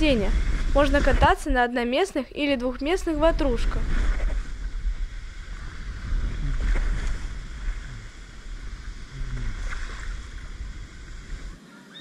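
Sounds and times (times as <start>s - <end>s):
wind buffeting microphone: 0.0s - 11.6s
faint outdoor hiss: 0.0s - 12.0s.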